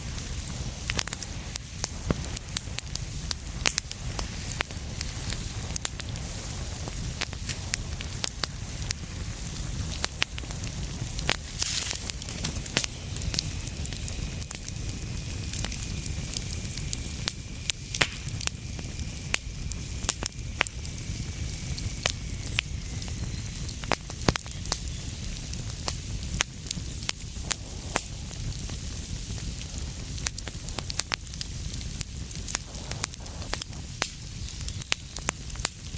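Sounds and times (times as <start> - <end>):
fire crackling and popping: 0.0 - 35.9.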